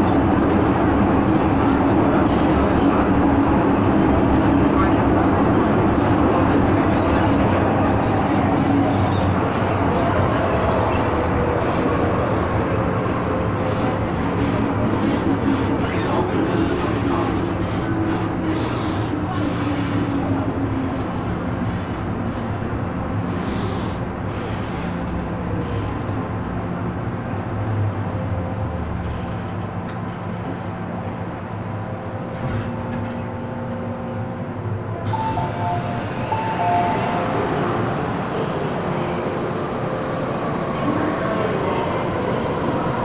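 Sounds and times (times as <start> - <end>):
train wheel rumble: 0.0 - 43.0.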